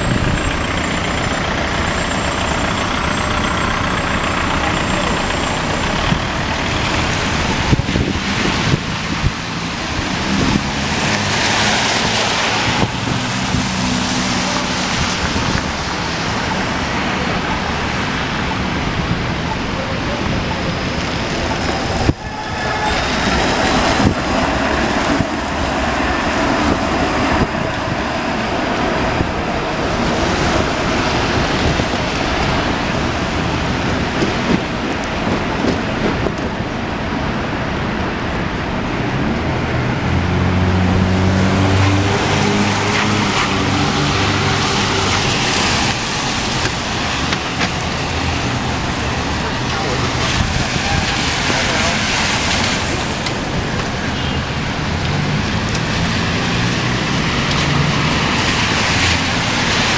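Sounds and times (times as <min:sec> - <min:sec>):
cars passing on wet road: 0:00.0 - 0:59.9.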